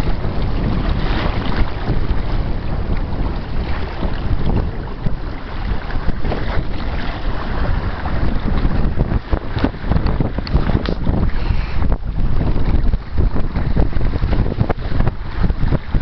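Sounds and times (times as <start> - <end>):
water splashing along hull: 0.0 - 16.0
wind buffeting microphone: 0.0 - 16.0.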